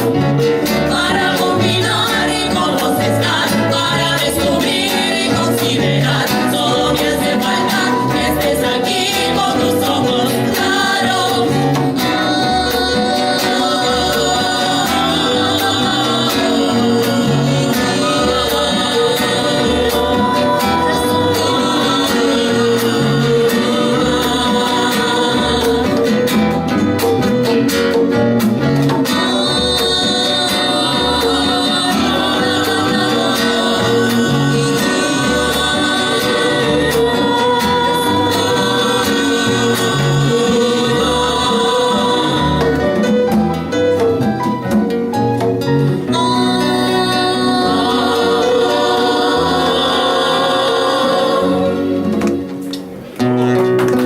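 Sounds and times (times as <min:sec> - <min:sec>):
live band playing: 0:00.0 - 0:54.0
person singing: 0:00.9 - 0:26.3, 0:29.0 - 0:43.2, 0:46.1 - 0:52.3.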